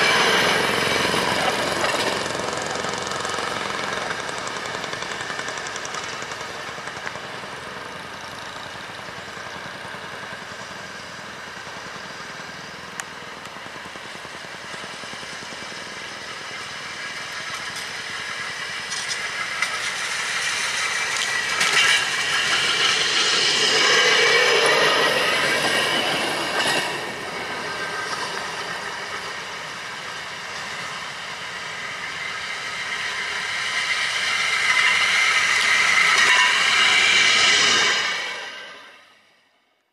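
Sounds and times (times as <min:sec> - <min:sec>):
rail speeder engines droning: 0:00.0 - 0:39.9.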